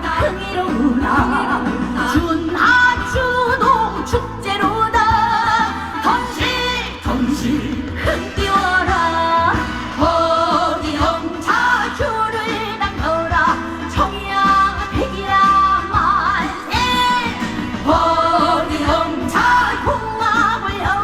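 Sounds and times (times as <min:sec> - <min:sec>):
amplified band backing: 0:00.0 - 0:21.0
woman singing with vibrato: 0:00.0 - 0:21.0.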